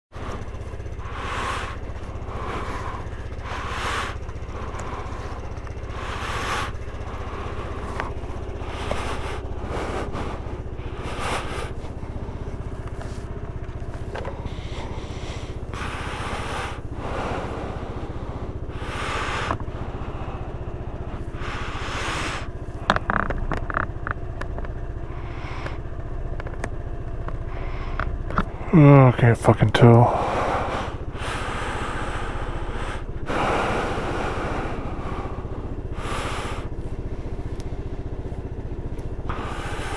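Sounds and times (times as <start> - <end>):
motorcycle engine running: 0.0 - 29.0, 30.0 - 39.9.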